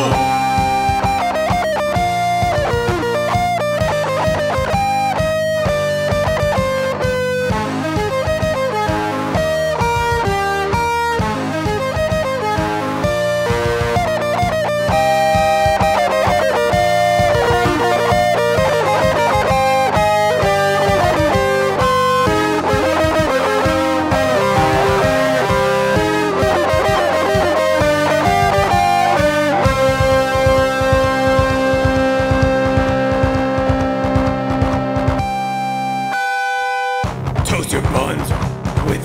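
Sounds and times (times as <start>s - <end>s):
steady beat: 0.0s - 35.6s, 37.0s - 39.0s
bass notes: 0.0s - 36.1s, 37.0s - 39.0s
melodic guitar lead: 0.0s - 38.3s.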